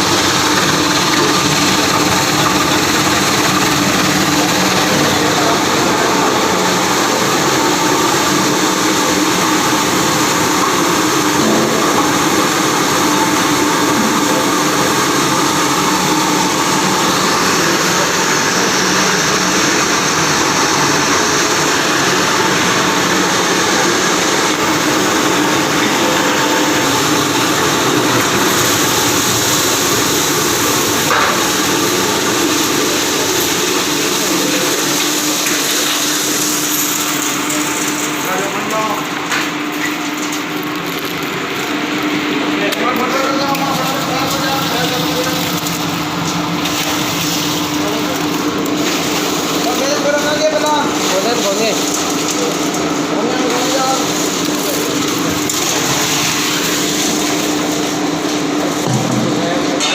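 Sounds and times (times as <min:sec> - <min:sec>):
industrial washing machine motor: 0:00.0 - 0:59.9.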